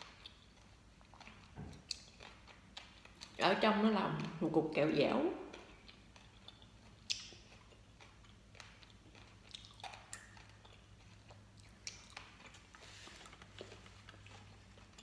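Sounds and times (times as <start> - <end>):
person chewing gummy candy: 0.0 - 4.5, 5.3 - 15.0.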